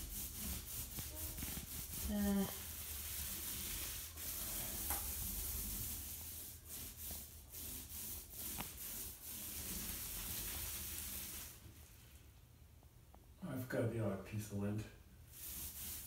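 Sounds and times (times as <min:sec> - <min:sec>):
paint roller rolling on wall: 0:00.0 - 0:12.2, 0:15.3 - 0:16.0.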